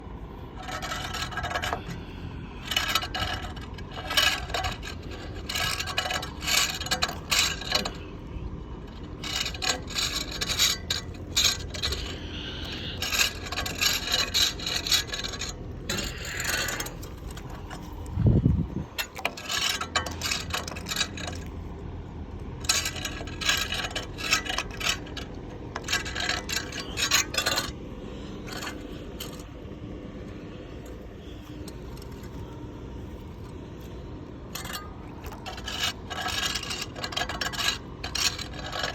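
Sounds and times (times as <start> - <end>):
hard scraping and rubbing: 0.4 - 21.7, 22.6 - 38.9.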